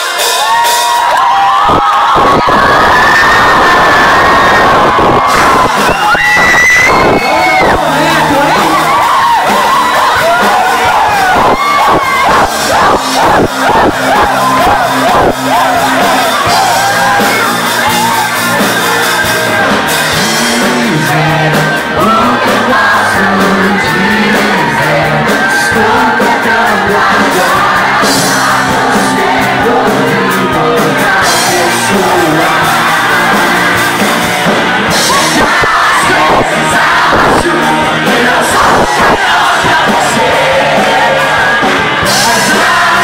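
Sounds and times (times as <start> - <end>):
crowd singing and shouting along: 0.0 - 43.0
loud music: 0.0 - 43.0.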